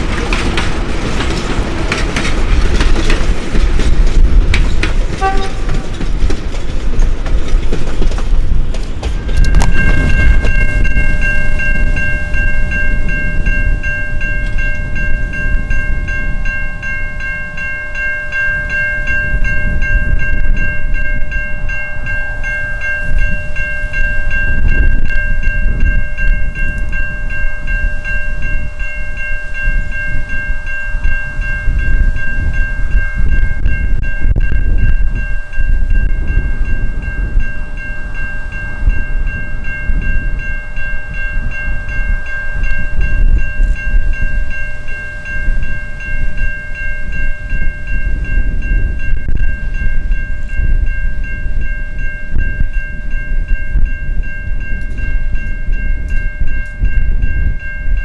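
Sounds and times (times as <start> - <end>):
diesel locomotive rumble: 0.0 - 58.0
high-pitched ringing tone: 9.4 - 58.0.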